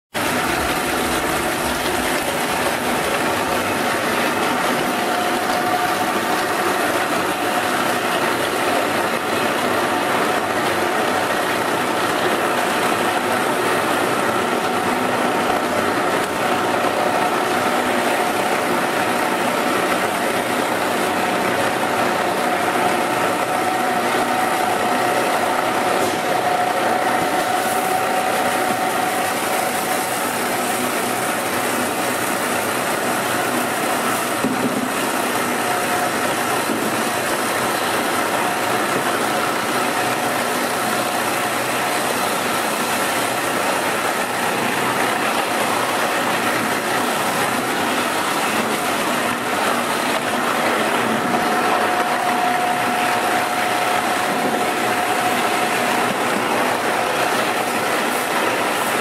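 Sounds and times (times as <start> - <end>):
bowl cutter whirring: 0.1 - 59.0.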